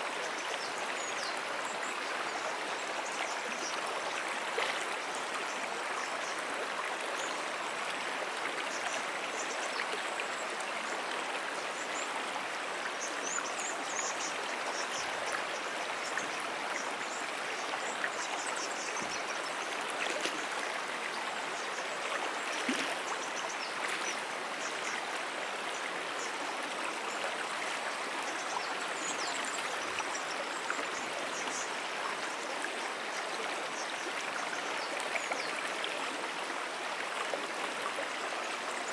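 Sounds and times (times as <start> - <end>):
brook water running: 0.0 - 38.9.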